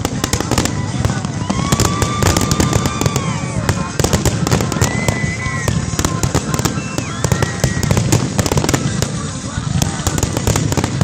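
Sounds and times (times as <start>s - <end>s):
fireworks bangs and crackles: 0.0s - 11.0s
fireworks whistling: 0.0s - 11.0s.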